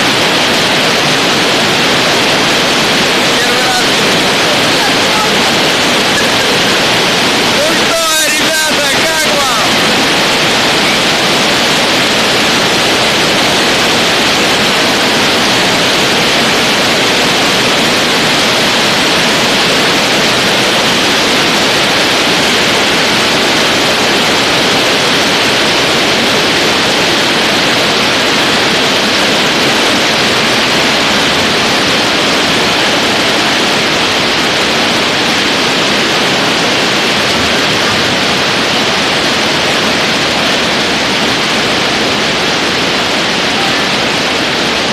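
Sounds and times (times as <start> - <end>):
hail and heavy rain pelting: 0.0 - 44.9.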